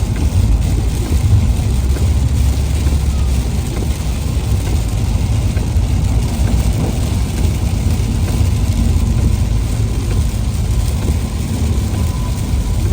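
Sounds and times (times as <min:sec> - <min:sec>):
car engine and tyres rumbling: 0:00.0 - 0:12.9
hiss of wet road and rain: 0:00.0 - 0:12.9.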